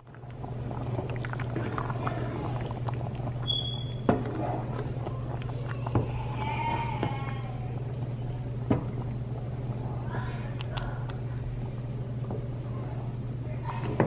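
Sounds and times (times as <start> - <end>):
low hum: 0.0 - 14.0
soup simmering and bubbling: 0.0 - 14.0.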